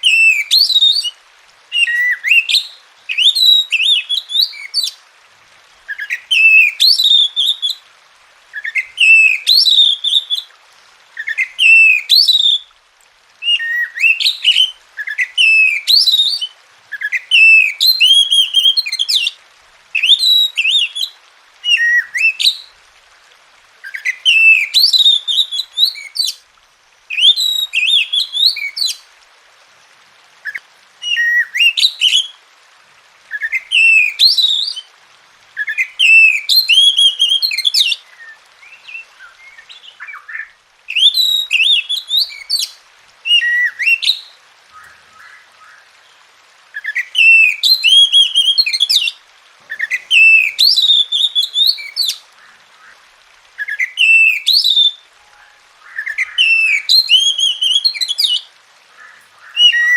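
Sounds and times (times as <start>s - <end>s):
bird singing whistled warbling notes: 0.0s - 5.0s, 5.9s - 7.8s, 8.5s - 10.5s, 11.2s - 12.7s, 13.4s - 19.3s, 20.0s - 22.7s, 23.8s - 26.4s, 27.1s - 29.0s, 30.4s - 32.4s, 33.3s - 34.9s, 35.6s - 52.9s, 53.6s - 59.9s.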